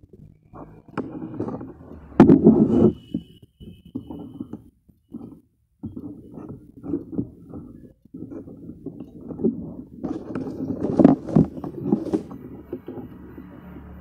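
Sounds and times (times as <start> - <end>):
paper fans rustling: 0.0 - 3.3, 3.9 - 14.0.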